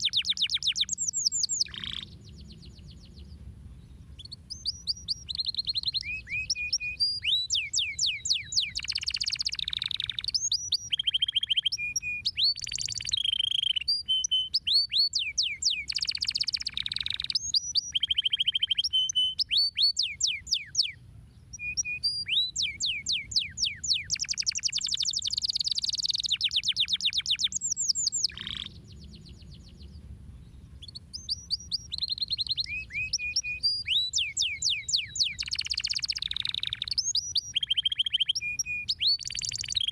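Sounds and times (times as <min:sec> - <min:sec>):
canary singing rapid trills: 0:00.0 - 0:02.6, 0:04.2 - 0:29.7, 0:30.8 - 0:39.9.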